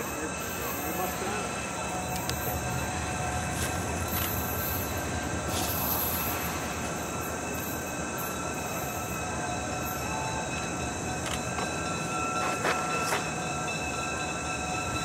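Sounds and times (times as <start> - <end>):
diesel locomotive engine rumble: 0.0 - 15.0
high even whine: 0.0 - 15.0.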